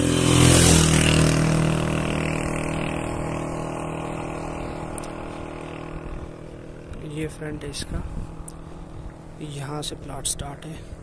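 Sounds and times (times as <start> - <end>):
vehicle engine passing: 0.0 - 9.5.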